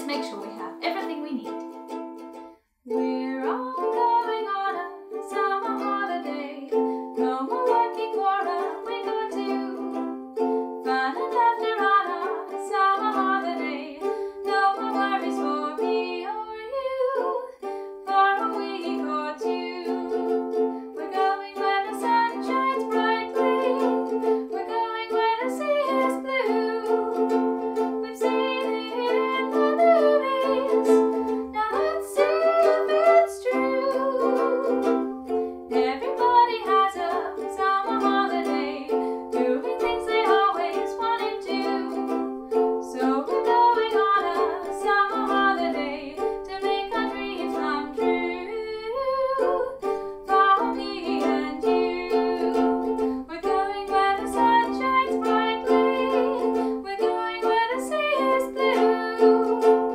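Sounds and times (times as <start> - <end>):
ukulele music: 0.0 - 59.9.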